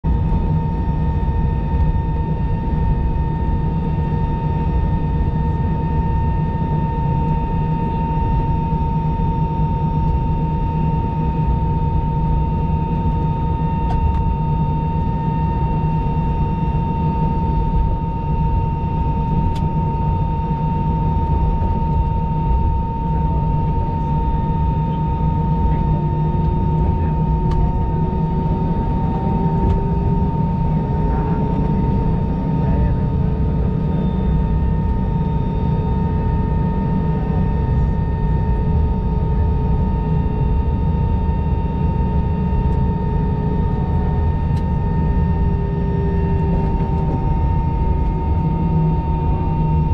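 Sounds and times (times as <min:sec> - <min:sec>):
jet engine high whine: 0:00.0 - 0:49.9
aircraft cabin rumble: 0:00.1 - 0:49.9.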